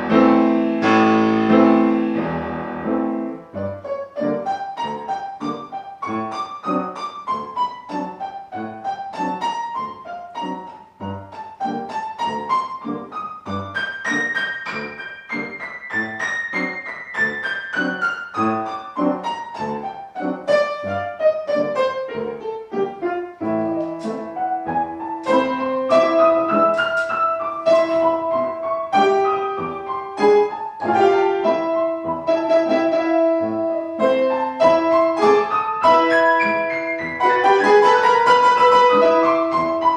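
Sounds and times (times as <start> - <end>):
classical piano music: 0.0 - 39.9.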